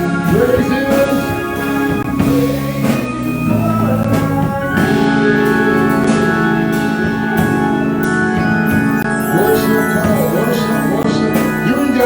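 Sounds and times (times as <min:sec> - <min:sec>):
band playing worship music: 0:00.0 - 0:12.0.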